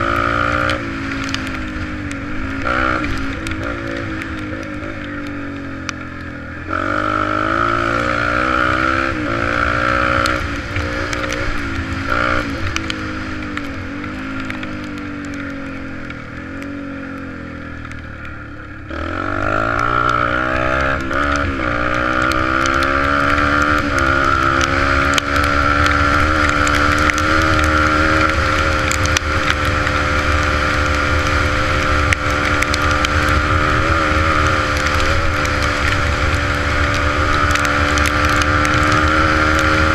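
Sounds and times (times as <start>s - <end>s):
dirt bike engine revving: 0.0s - 17.3s, 18.8s - 39.9s.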